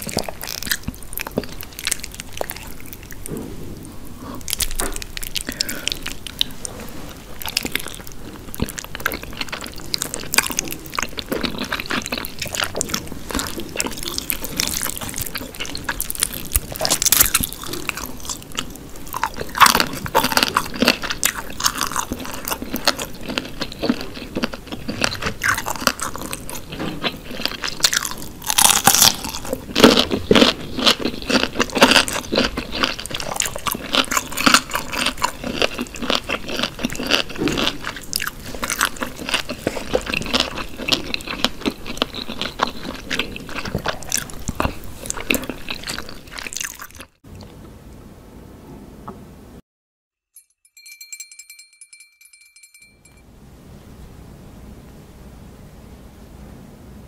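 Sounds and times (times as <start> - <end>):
wet chewing and mouth smacking: 0.0 - 3.3, 4.1 - 47.5.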